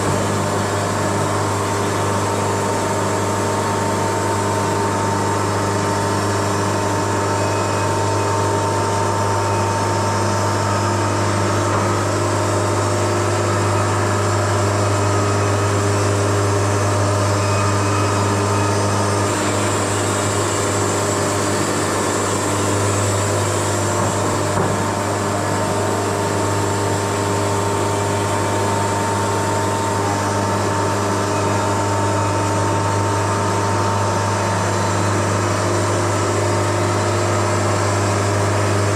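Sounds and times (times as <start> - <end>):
sawmill humming: 0.0 - 38.9.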